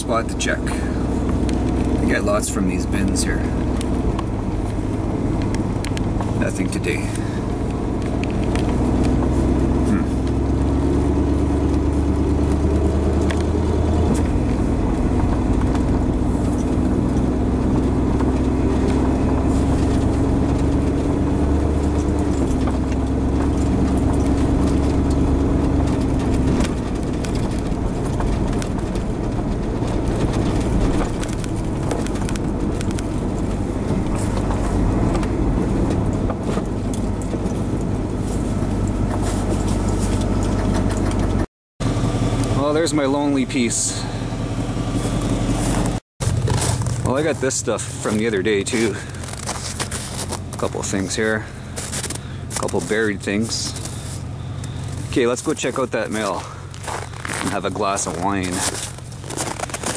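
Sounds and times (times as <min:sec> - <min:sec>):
engine hum rising in pitch: 0:00.0 - 0:59.9
vehicle engine and road rumble: 0:00.0 - 0:59.9.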